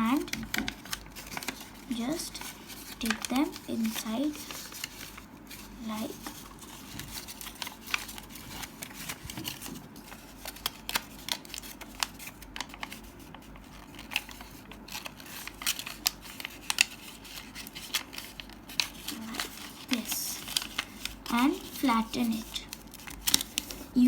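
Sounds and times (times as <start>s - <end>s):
paper crackling and rustling: 0.0s - 24.0s.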